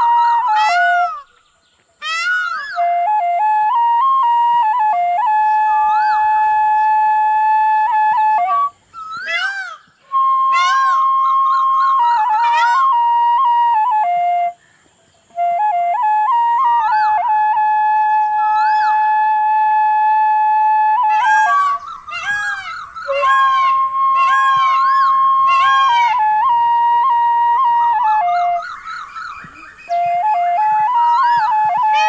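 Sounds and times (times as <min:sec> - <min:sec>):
bamboo flute melody: 0:00.0 - 0:14.6, 0:15.3 - 0:32.0.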